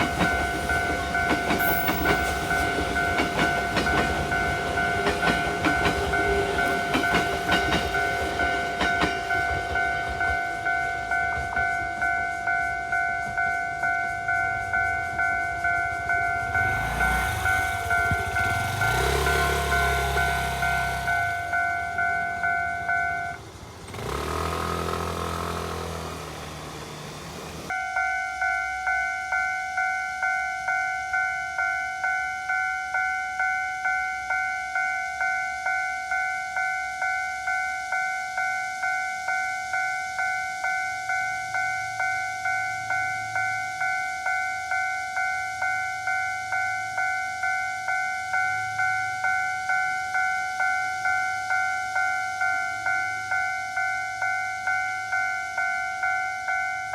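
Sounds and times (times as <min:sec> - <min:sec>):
level crossing warning bell: 0:00.0 - 0:26.2, 0:27.7 - 0:56.9.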